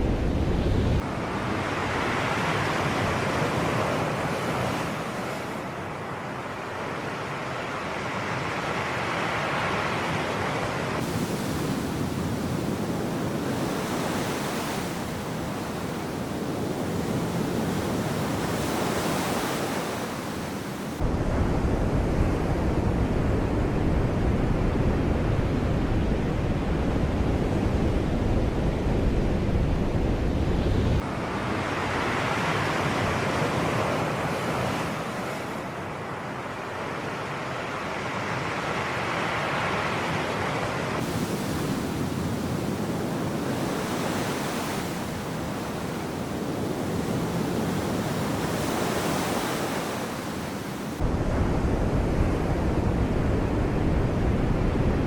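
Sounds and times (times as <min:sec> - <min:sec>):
sea surf breaking on shore: 0:00.0 - 0:23.4, 0:31.0 - 0:55.0.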